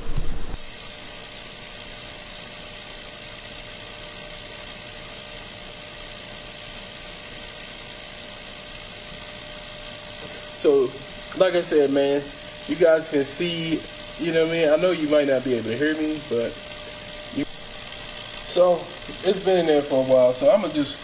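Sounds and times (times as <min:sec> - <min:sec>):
ultrasonic cleaner humming: 0:00.0 - 0:21.0.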